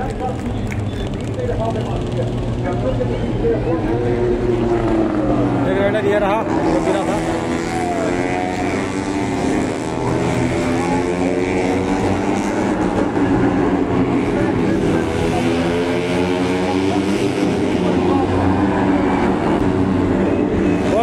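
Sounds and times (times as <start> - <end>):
engine running steady drone: 0.0 - 21.0.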